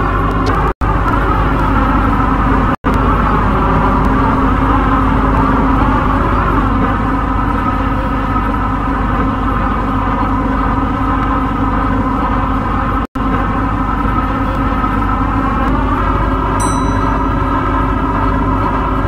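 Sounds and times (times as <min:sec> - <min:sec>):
electric train motor whine: 0:00.0 - 0:19.0.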